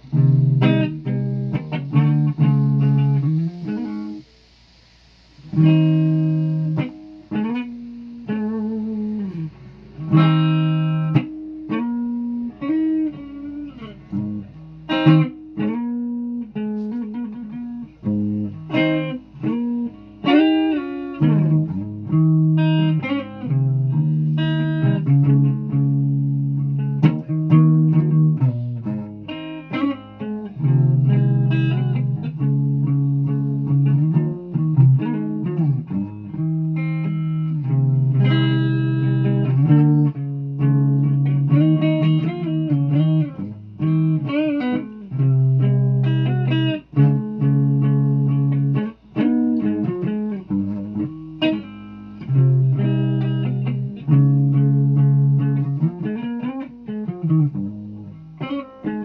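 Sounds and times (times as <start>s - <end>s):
guitar notes and chords: 0.0s - 59.0s.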